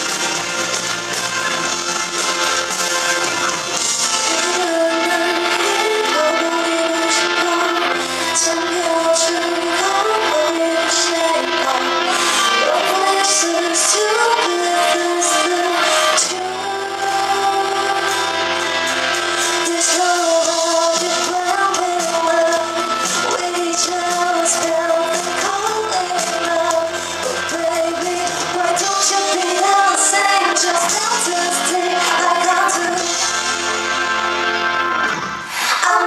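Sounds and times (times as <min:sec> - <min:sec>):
loud backing track: 0:00.0 - 0:36.0
woman singing: 0:04.0 - 0:33.3, 0:35.7 - 0:36.0.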